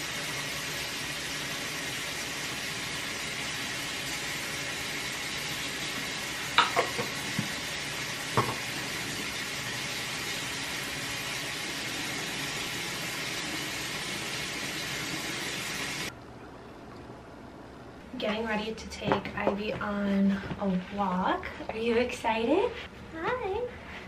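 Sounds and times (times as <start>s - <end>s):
room noise hiss: 0.0s - 24.0s.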